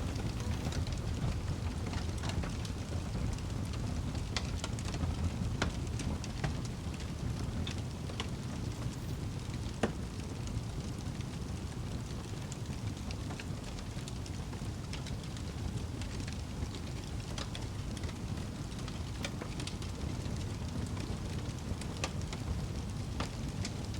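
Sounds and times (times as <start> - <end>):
fire pops and crackles: 0.0 - 23.9
low rumble of burning fire: 0.0 - 23.9.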